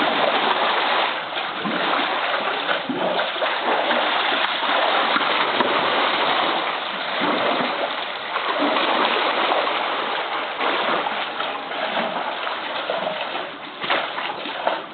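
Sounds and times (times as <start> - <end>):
polar bear splashing in water: 0.0 - 14.9.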